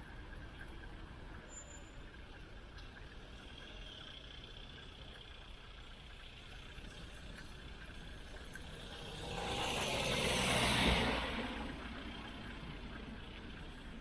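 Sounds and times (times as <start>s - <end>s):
cars driving along street: 0.0s - 14.0s.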